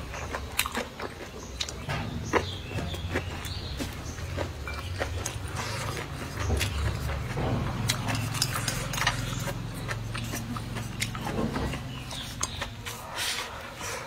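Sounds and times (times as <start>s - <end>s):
low steady hum: 0.0s - 14.0s
mouth chewing: 0.0s - 14.0s.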